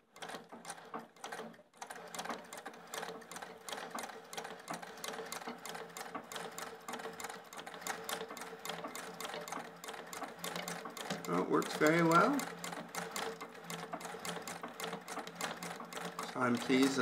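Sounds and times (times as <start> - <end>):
treadle sewing machine stitching: 0.0 - 17.0.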